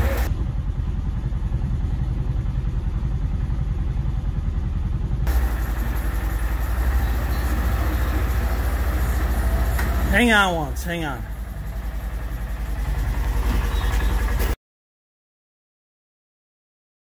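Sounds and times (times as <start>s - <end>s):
engine idling: 0.0s - 14.6s.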